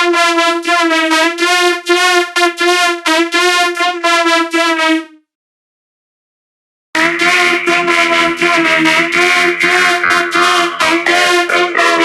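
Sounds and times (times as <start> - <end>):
buzzy synthesizer note: 0.0 - 5.0, 7.0 - 12.0.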